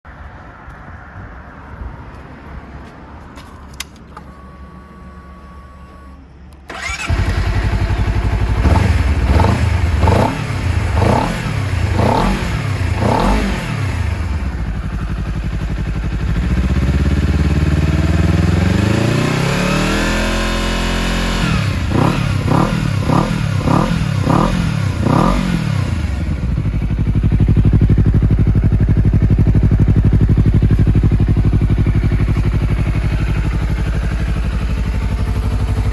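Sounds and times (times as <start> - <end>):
motorcycle engine revving: 6.7 - 35.9.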